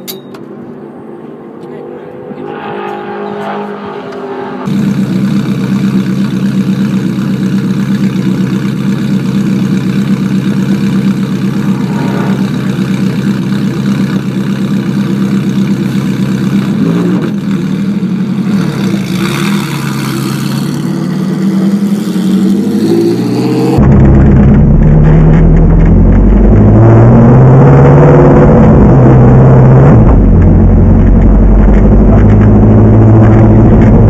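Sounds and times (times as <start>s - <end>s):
race car engine idling and revving: 0.4s - 34.0s.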